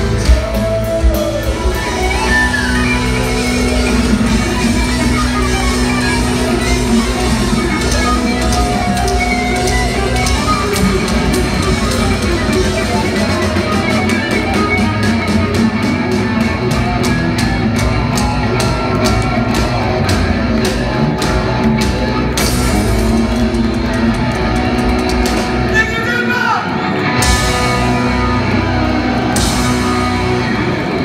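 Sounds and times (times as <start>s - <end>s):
live metal band playing loud: 0.0s - 31.0s.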